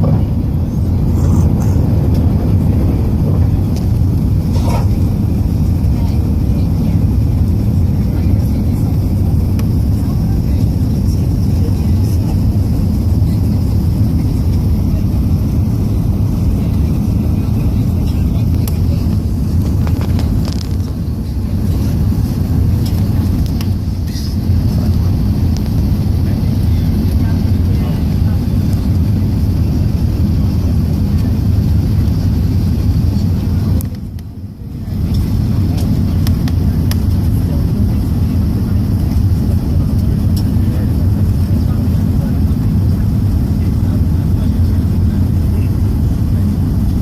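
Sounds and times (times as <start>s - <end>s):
jet engines roaring at takeoff: 0.0s - 47.0s.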